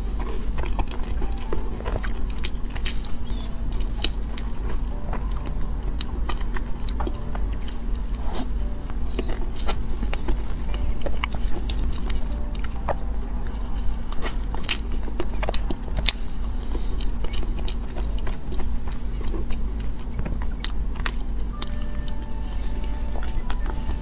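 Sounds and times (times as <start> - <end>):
chewing: 0.0 - 24.0
steady low hum: 0.0 - 24.0.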